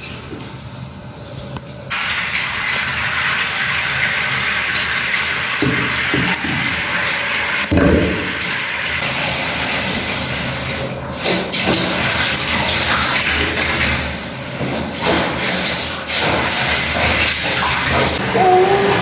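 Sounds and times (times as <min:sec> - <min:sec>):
water running into bathtub: 0:00.0 - 0:19.0.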